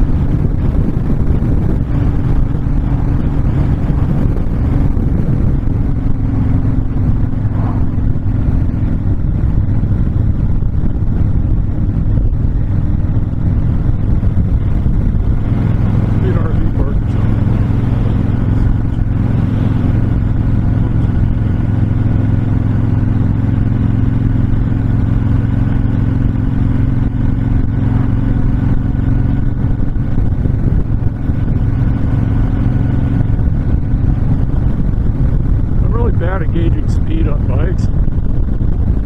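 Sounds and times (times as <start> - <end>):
motorcycle engine cruising: 0.0 - 39.0
wind rushing: 0.0 - 39.0.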